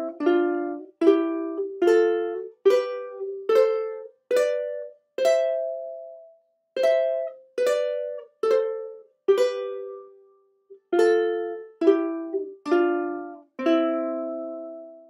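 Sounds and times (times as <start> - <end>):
ukulele plucking a scale: 0.0 - 10.1, 10.7 - 15.0.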